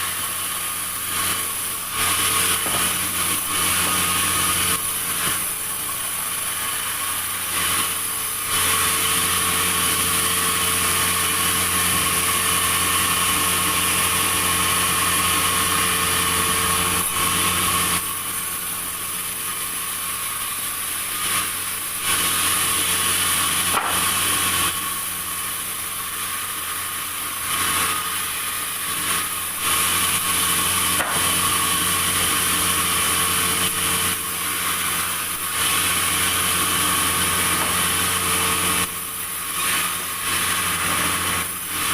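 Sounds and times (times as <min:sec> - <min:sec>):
machine hum: 0:00.0 - 0:41.9
saw cutting through timber: 0:00.0 - 0:41.9.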